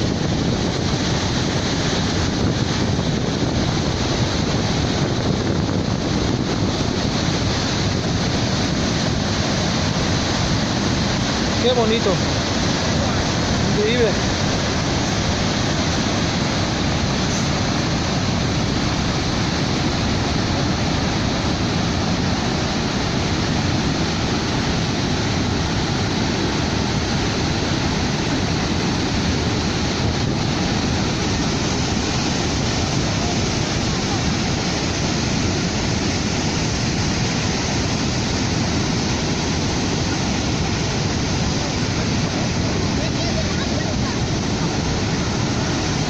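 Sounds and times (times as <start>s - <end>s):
waterfall roaring: 0.0s - 46.0s.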